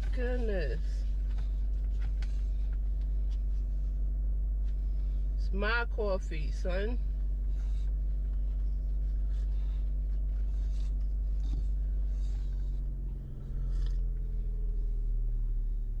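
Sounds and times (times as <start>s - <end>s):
car cabin drone: 0.0s - 16.0s.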